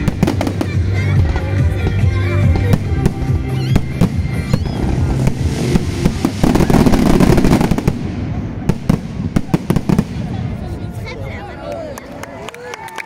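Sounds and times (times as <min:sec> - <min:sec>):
fireworks bangs and crackling: 0:00.0 - 0:11.4.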